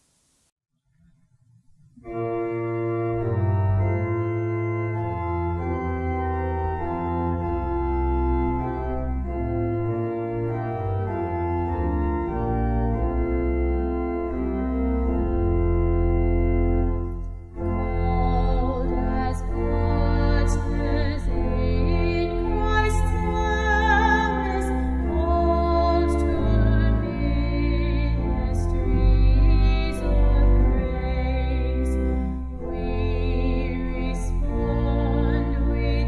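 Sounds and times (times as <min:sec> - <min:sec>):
church organ chords: 0:02.0 - 0:36.0.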